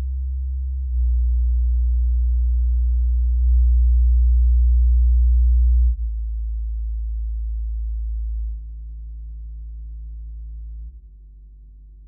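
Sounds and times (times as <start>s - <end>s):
low bass sine tone: 0.0s - 12.0s.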